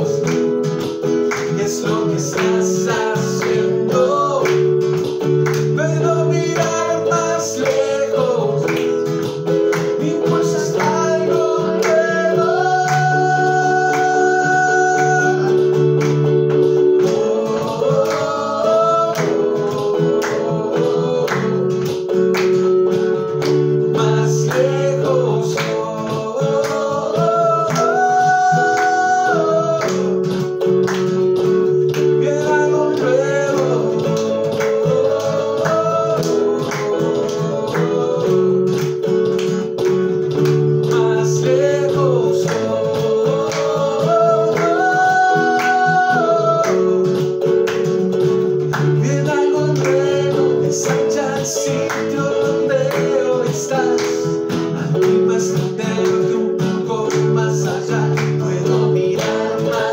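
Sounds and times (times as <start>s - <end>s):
voices singing slow melody: 0.0s - 47.7s, 48.6s - 59.9s
acoustic guitar strumming: 0.0s - 59.9s.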